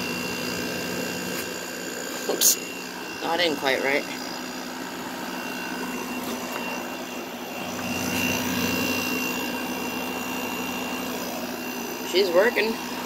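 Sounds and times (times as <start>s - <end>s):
compressor humming: 0.0s - 13.0s
fan whirring: 0.0s - 13.0s.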